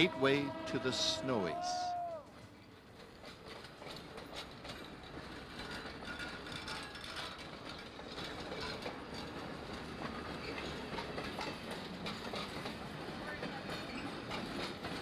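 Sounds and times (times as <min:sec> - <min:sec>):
train rumbling along track: 0:00.0 - 0:15.0
train wheels clicking and rattling: 0:02.3 - 0:15.0.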